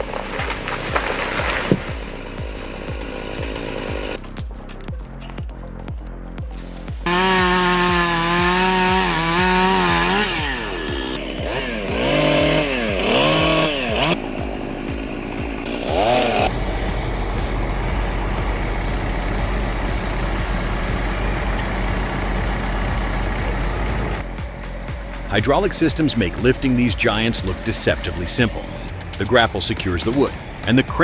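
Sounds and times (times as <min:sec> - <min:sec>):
chainsaw cutting wood: 0:00.0 - 0:04.5, 0:07.0 - 0:25.3, 0:26.9 - 0:30.3
low rumbling noise: 0:00.0 - 0:31.0.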